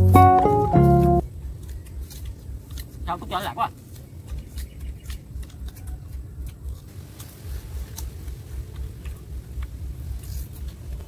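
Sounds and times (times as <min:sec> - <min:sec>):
sugarcane rind cracking and snapping: 0:01.2 - 0:11.0.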